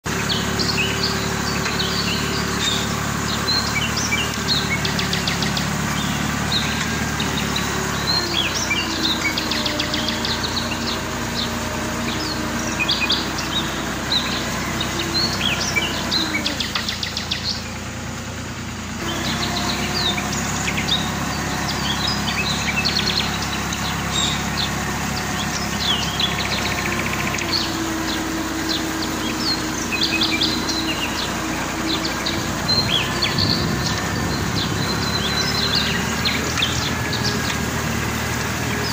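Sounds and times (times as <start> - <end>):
small birds chirping: 0.0 - 38.9
tractor engine droning: 0.0 - 38.9.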